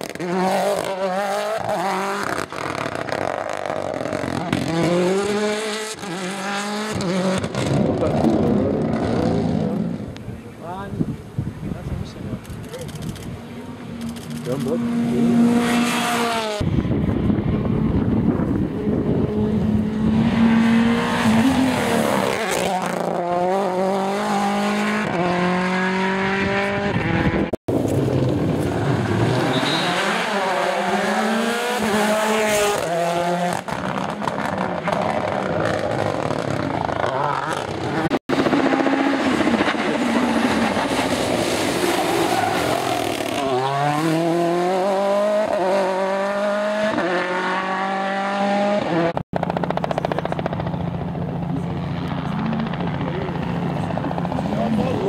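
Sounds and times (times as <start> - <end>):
rally car engine revving: 0.0 - 10.2, 12.4 - 55.0.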